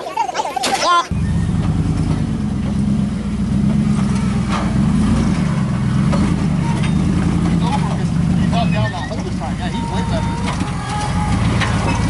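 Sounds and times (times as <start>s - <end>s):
truck engine under load: 0.2s - 12.0s.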